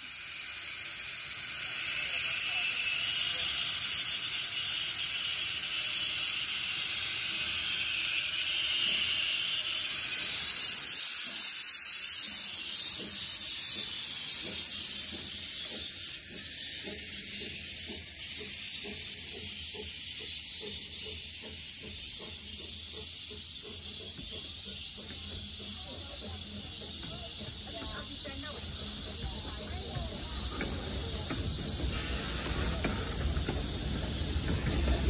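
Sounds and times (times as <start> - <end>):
steam hissing from locomotive: 0.0 - 35.0
train wheels clicking on rail joints: 0.0 - 35.0.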